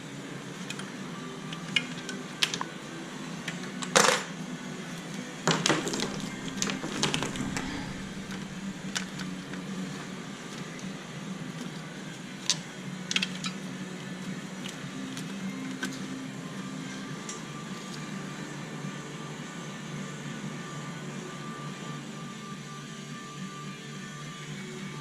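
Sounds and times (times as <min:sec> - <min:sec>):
steady low hum: 0:04.4 - 0:25.0.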